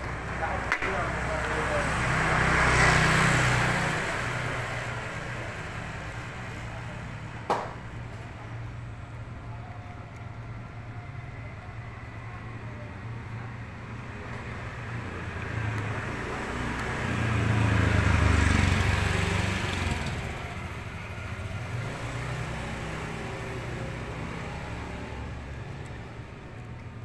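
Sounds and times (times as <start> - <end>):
vehicle engine passing by: 0.0 - 8.5, 11.3 - 26.9.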